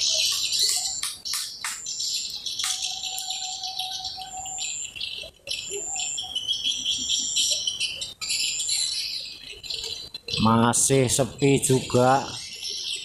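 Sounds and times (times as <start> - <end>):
birds and insects chirping: 0.0 - 13.0.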